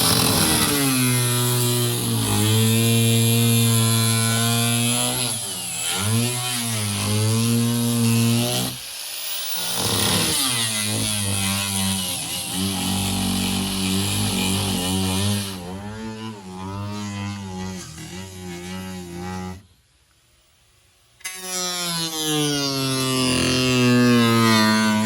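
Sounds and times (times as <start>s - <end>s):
power tool cutting wood: 0.0s - 19.7s, 21.2s - 25.0s.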